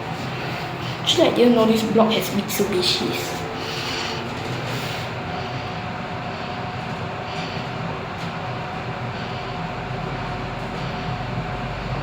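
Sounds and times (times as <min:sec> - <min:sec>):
faint constant whine: 0:00.0 - 0:12.0.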